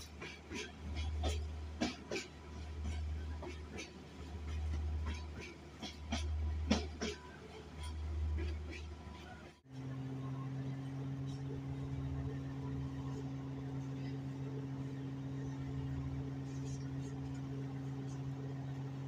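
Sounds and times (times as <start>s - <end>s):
diesel railcar engine hum: 0.0s - 19.0s.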